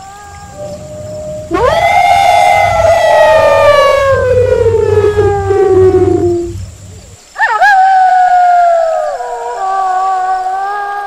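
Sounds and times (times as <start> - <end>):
wolves howling: 0.0 - 10.8.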